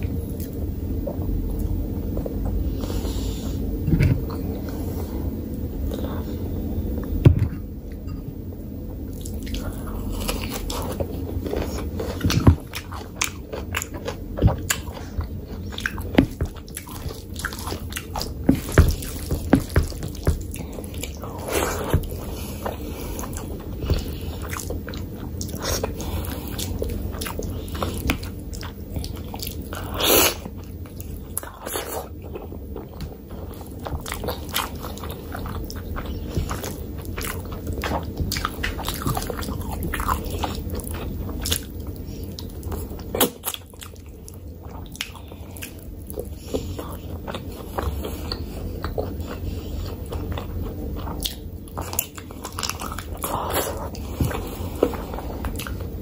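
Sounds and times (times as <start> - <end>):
wet chewing mouth sounds: 9.1 - 56.0.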